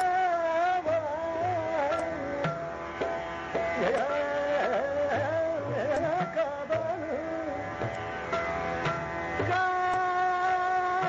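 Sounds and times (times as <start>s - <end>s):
tabla strokes: 0.0s - 11.0s.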